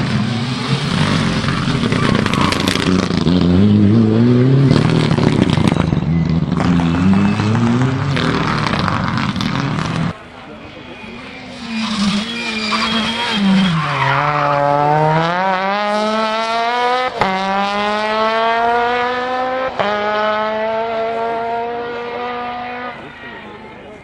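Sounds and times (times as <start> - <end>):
rally car engine at full throttle: 0.0 - 24.0.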